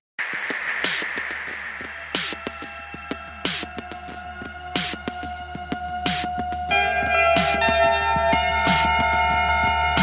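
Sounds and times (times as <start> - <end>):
electronic music with drum beat: 0.2 - 10.0.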